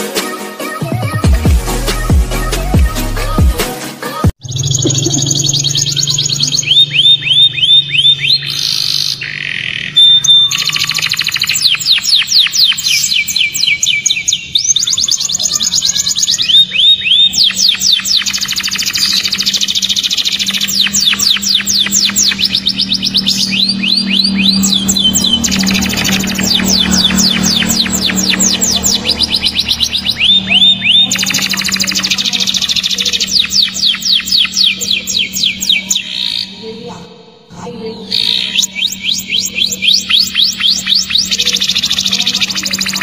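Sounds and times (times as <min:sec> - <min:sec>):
canary singing trills: 0:04.4 - 0:43.0.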